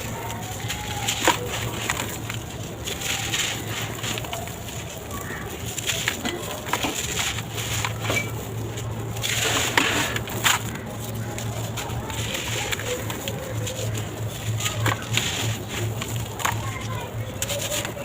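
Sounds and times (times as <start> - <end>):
blocks crumbling and crunching: 0.0 - 18.0.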